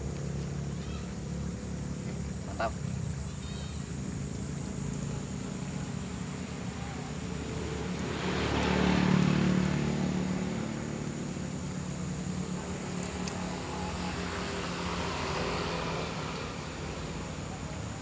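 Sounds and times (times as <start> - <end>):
engine passing by: 0.0 - 18.0.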